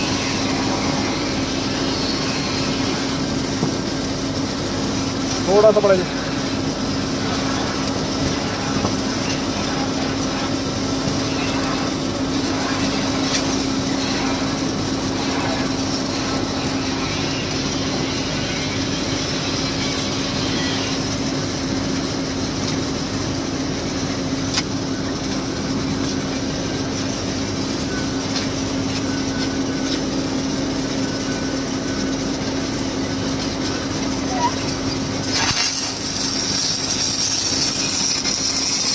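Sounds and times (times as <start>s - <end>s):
machinery humming: 0.0s - 38.9s
welding crackling hiss: 0.0s - 38.9s.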